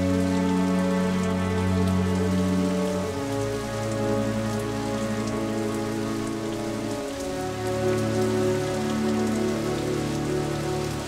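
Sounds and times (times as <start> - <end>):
heavy rain on stone paving: 0.0 - 11.0.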